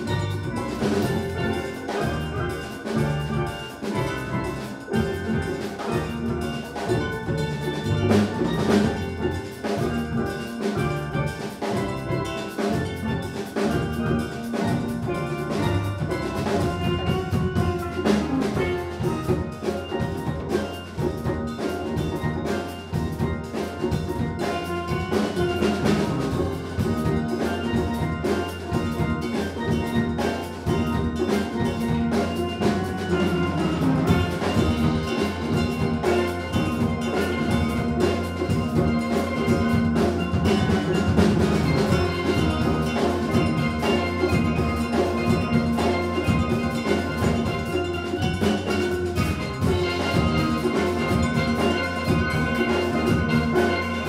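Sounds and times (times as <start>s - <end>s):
congas: 0.0s - 54.0s
drum kit: 0.0s - 54.0s
steel pans: 0.0s - 54.0s.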